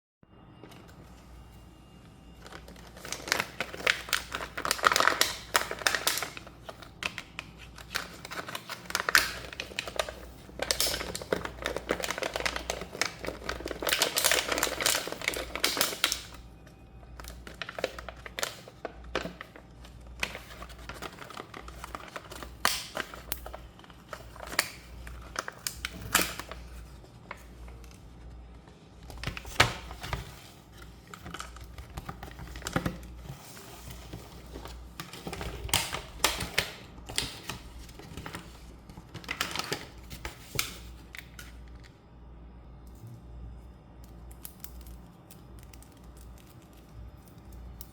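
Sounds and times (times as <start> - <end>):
plastic and cardboard crinkling: 2.4 - 41.9.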